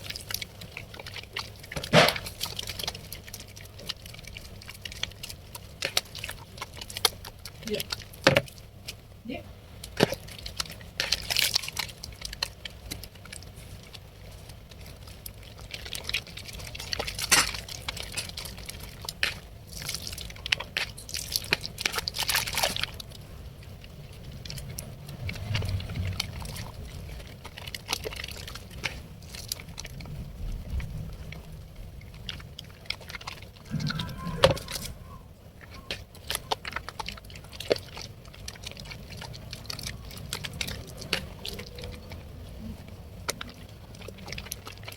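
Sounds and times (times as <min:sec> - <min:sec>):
soap lather squishing: 0:00.0 - 0:09.2, 0:09.8 - 0:44.9.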